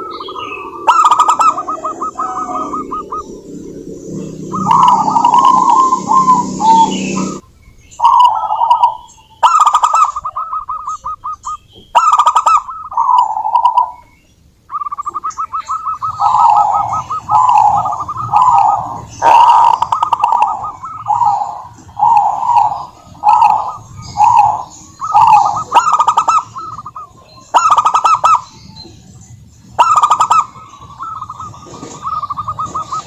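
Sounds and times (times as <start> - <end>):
doves cooing: 0.0 - 7.4, 8.0 - 14.1, 14.7 - 33.0
low background noise: 0.0 - 33.0.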